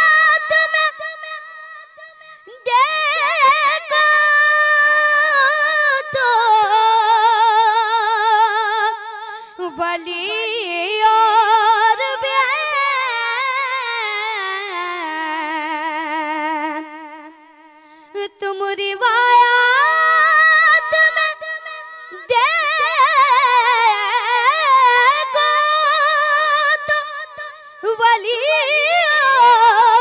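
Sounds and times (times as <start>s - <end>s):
boy singing devotional song: 0.0s - 30.0s.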